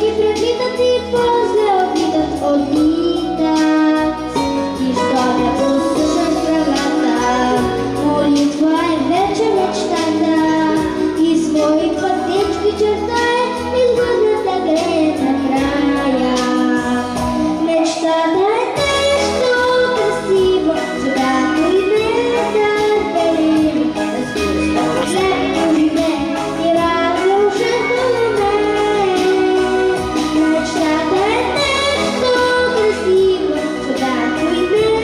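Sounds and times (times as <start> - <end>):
children singing pop song: 0.0 - 35.0
instrumental accompaniment with beat: 0.0 - 35.0.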